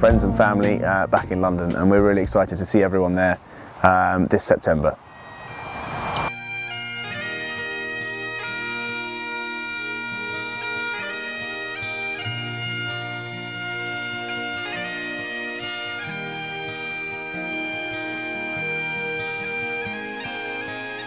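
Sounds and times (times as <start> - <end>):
slow bagpipe tune with drone: 0.0 - 2.0, 5.0 - 21.0.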